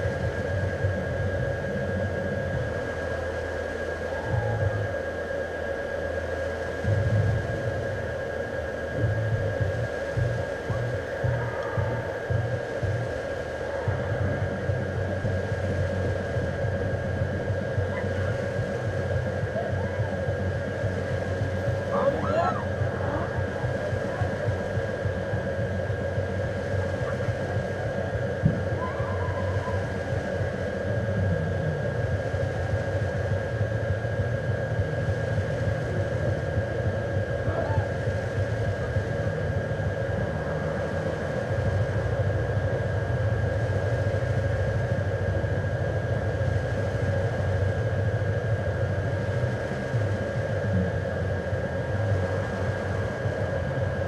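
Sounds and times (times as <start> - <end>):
machine droning hum: 0.0 - 54.0
thin high whine: 0.0 - 54.0.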